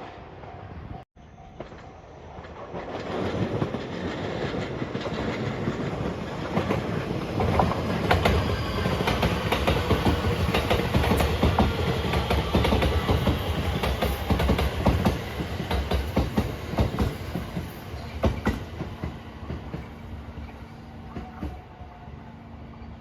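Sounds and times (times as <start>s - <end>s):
train wheels clacking over rails: 1.6s - 21.6s
train rumble: 1.6s - 23.0s.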